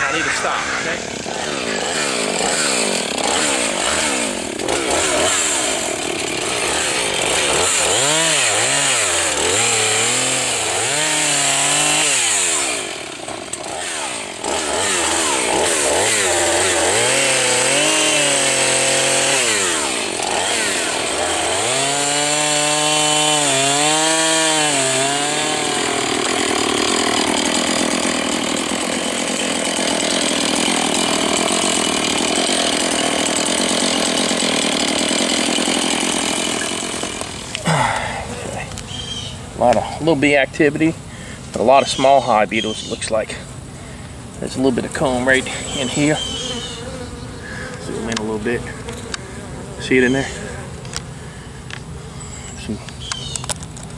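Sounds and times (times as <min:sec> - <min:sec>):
chainsaw cutting wood: 0:00.0 - 0:42.4, 0:44.0 - 0:53.9.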